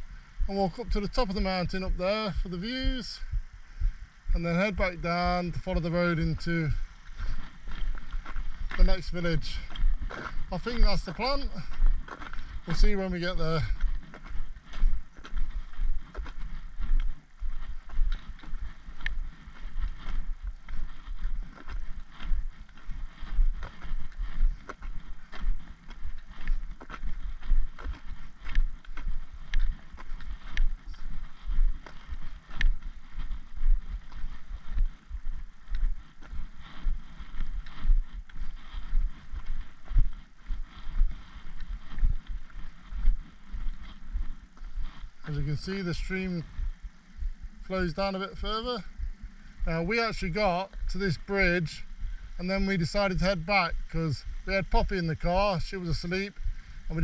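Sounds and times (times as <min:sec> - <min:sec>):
faint clicks and rustle: 0:00.0 - 0:57.0
footsteps on tarmac: 0:00.0 - 0:57.0.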